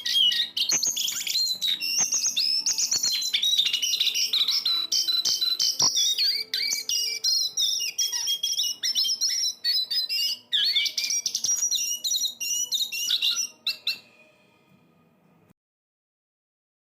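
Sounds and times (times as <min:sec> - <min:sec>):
songbird singing chirps and whistles: 0:00.0 - 0:15.5.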